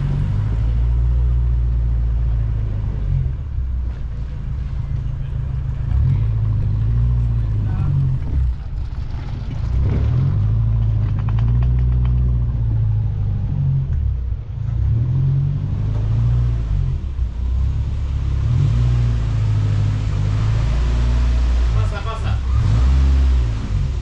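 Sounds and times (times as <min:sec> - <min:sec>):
van engine running at low revs: 0:00.0 - 0:24.0.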